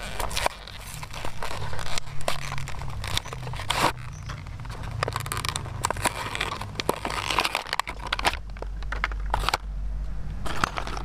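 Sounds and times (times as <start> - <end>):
blister pack crackling: 0.0 - 9.7.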